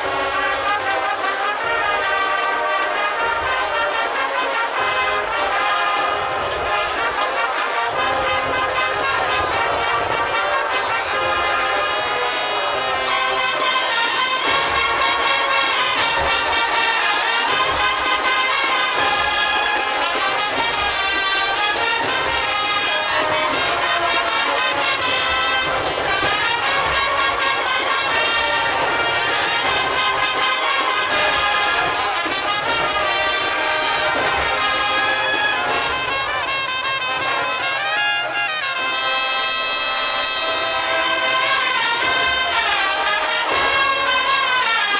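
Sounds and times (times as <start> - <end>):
brass band melody: 0.0 - 44.9
steady drum beat: 0.0 - 44.9.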